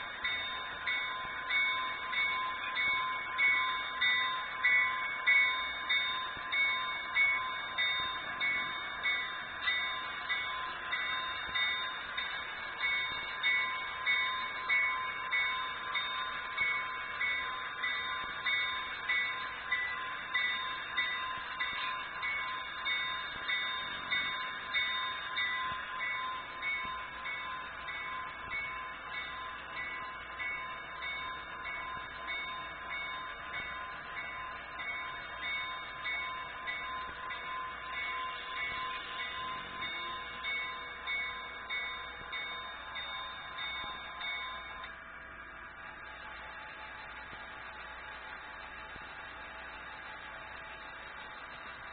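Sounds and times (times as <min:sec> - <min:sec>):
model train bell ringing: 0:00.0 - 0:51.9.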